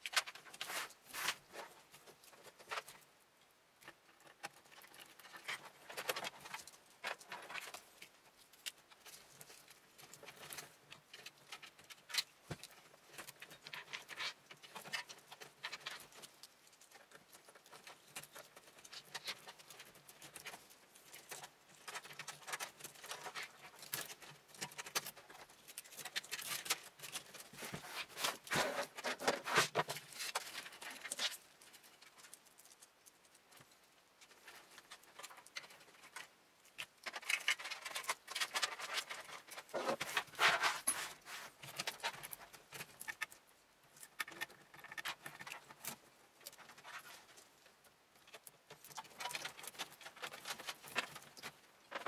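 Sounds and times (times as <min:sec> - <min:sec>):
cables rustling and scraping: 0:00.0 - 0:52.0.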